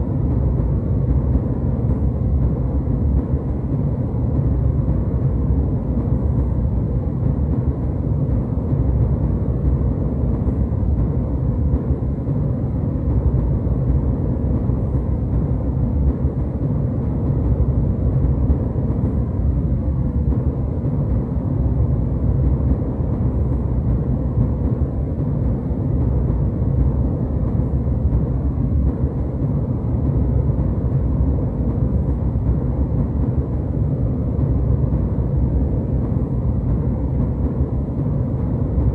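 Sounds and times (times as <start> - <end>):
jetliner cabin engine rumble: 0.0 - 38.9.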